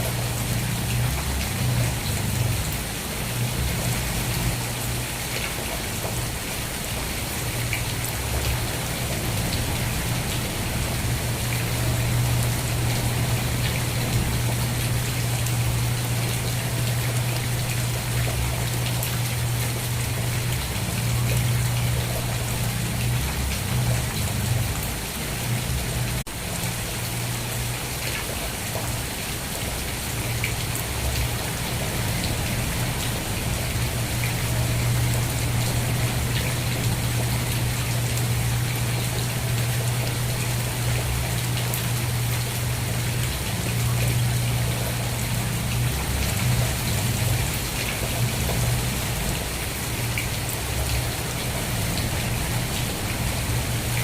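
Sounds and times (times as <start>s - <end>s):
heavy rain pattering: 0.0s - 54.0s
low steady rumble: 7.6s - 27.5s, 30.5s - 54.0s.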